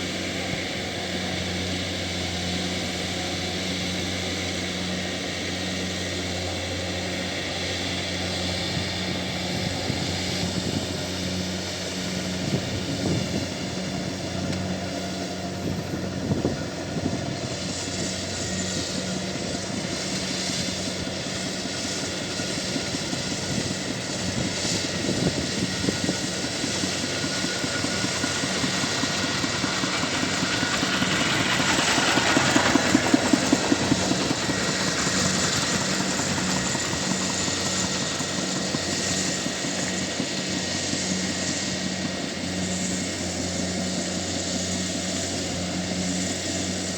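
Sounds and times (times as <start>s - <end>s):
combine harvester engine hum: 0.0s - 46.9s.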